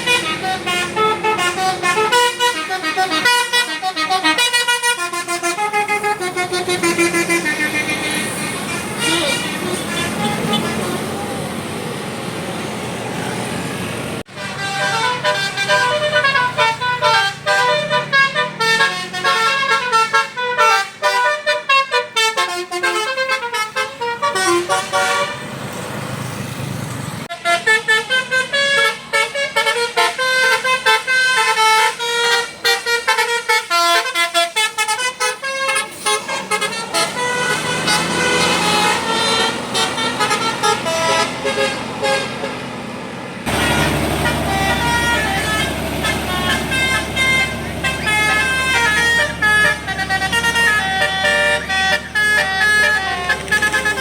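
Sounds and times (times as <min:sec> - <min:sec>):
multi-trumpet bus horn tune: 0:00.0 - 0:11.2, 0:14.3 - 0:25.6, 0:27.3 - 0:42.7, 0:43.4 - 0:54.0
bus engine and road noise: 0:00.0 - 0:54.0.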